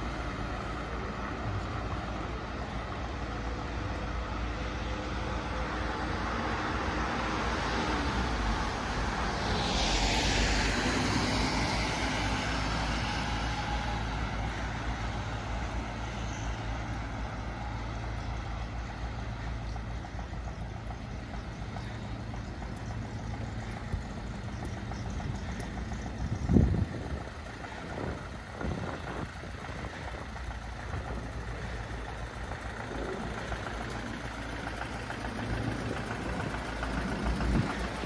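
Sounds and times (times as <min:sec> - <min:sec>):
low engine hum: 0:00.0 - 0:38.0
vehicle passing: 0:05.8 - 0:38.0.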